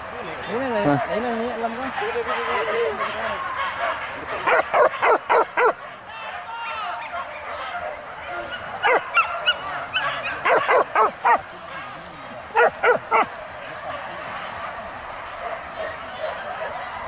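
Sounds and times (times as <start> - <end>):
dogs barking: 0.8 - 6.4, 7.0 - 11.9, 12.5 - 17.0.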